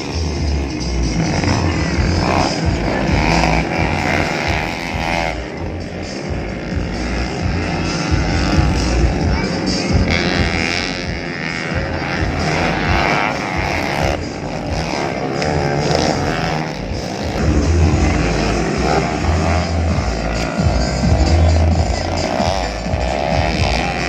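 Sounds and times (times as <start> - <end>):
dirt bikes revving: 0.0 - 24.0.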